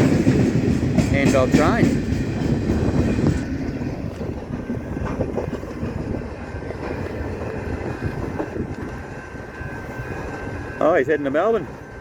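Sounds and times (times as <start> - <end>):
freight train rumbling over rails: 0.0 - 12.0.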